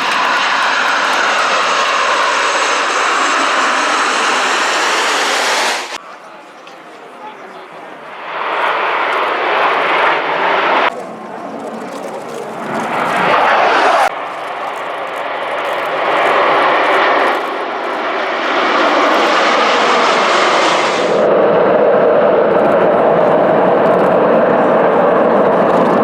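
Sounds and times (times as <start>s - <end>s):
military jet engine roar: 0.0s - 26.0s.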